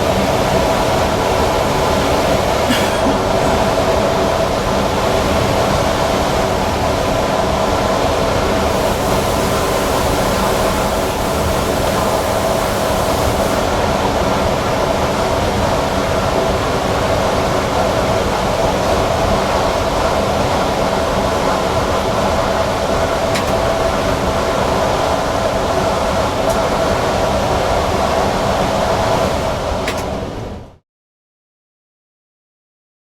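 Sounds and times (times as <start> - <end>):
wheels rumbling on rail: 0.0 - 30.8.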